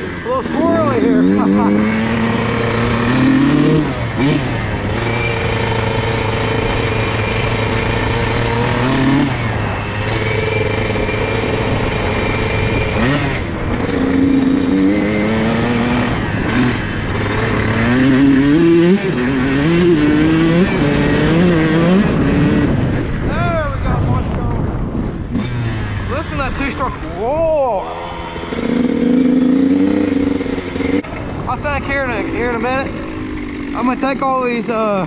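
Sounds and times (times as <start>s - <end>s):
dirt bike engine revving: 0.0s - 23.9s, 24.6s - 35.0s.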